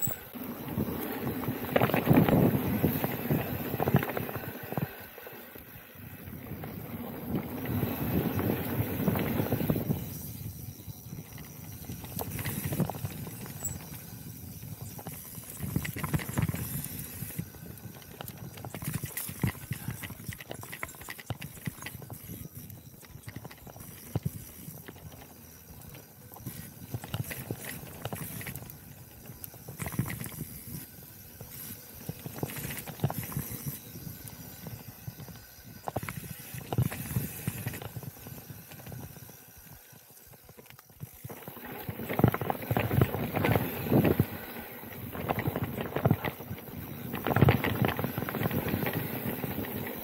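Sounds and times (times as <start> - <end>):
bike frame and chain rattling: 0.0 - 50.0
bike tyres rumbling on dirt: 0.0 - 50.0.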